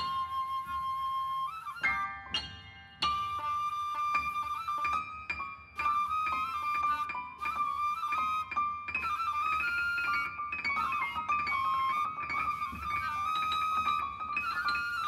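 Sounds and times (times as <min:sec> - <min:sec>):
flute melody: 0:00.0 - 0:15.0.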